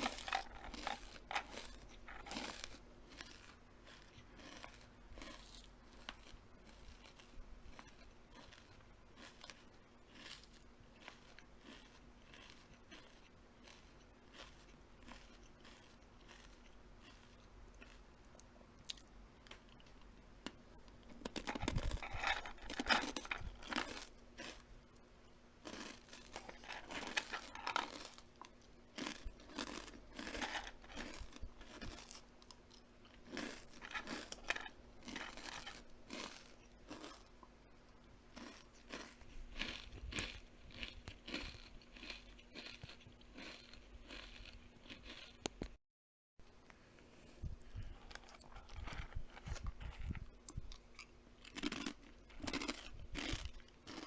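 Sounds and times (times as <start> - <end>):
crisp crunching and chewing: 0.0 - 45.8, 47.6 - 54.0.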